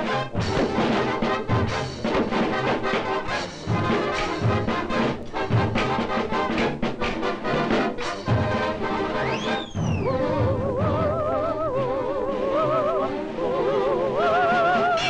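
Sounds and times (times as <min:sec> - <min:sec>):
cartoon orchestra with brass: 0:00.0 - 0:15.0.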